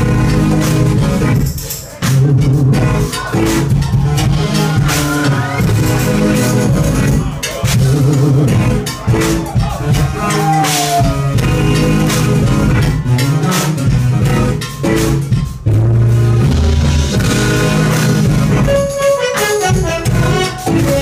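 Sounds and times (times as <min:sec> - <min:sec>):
heavy low bass notes: 0:00.0 - 0:19.0, 0:19.7 - 0:21.0
jazz fusion band playing: 0:00.0 - 0:21.0.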